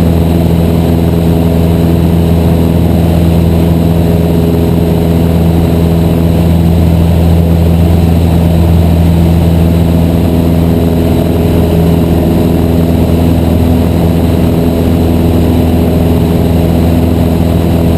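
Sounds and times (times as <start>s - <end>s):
light aircraft engine and propeller drone: 0.0s - 17.9s.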